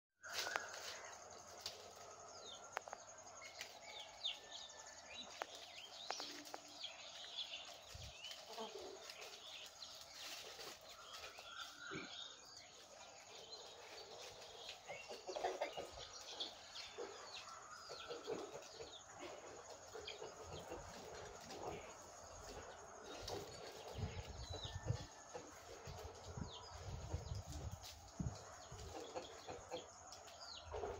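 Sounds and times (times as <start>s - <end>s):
small birds chirping: 0.3s - 30.9s.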